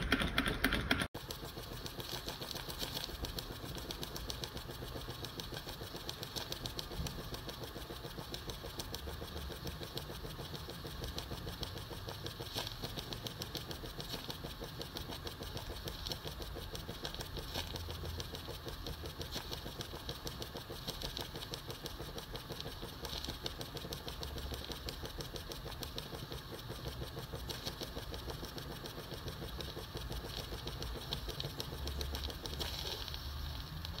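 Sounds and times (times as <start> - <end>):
model engine ticking: 0.0 - 34.0.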